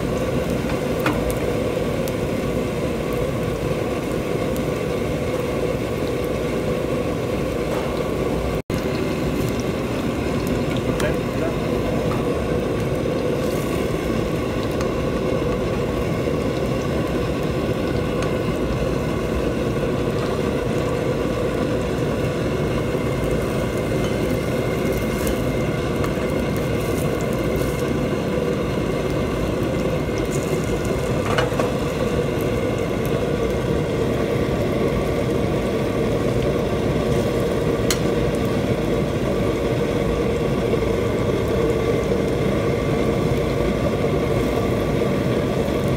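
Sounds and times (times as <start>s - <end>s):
mechanical drone with hum: 0.0s - 45.9s
patties frying in oil: 0.0s - 45.9s.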